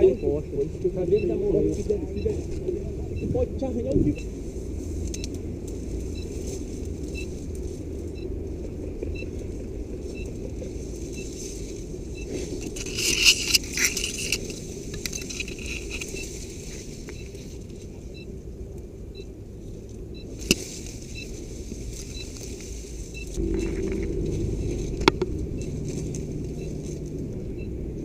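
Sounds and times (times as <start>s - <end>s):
steady low rumble: 0.0s - 28.0s
rustling and crackling of brush: 0.6s - 18.9s, 19.5s - 27.6s.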